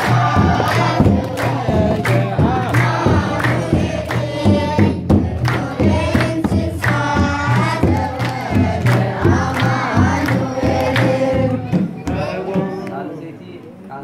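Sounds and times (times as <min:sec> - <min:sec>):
kebero drum beat: 0:00.0 - 0:12.9
hand claps: 0:00.0 - 0:13.0
children's choir singing a hymn: 0:00.0 - 0:13.1.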